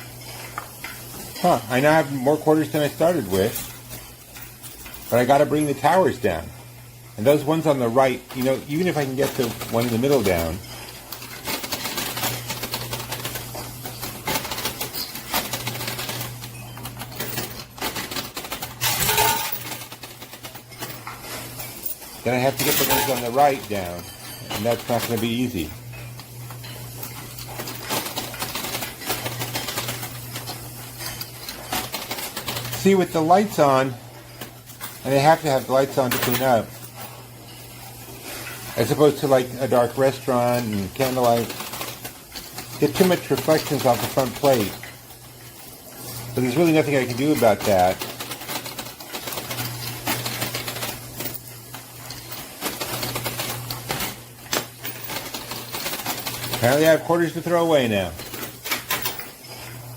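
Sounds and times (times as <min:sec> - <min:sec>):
machine low hum: 0:00.0 - 0:59.9
coins clicking on metal: 0:07.2 - 0:59.9.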